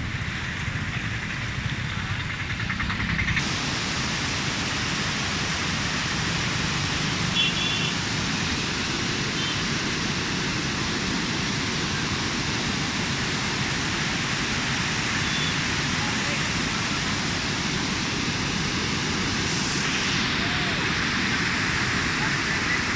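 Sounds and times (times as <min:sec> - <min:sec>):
rain on a river: 0:03.4 - 0:22.9.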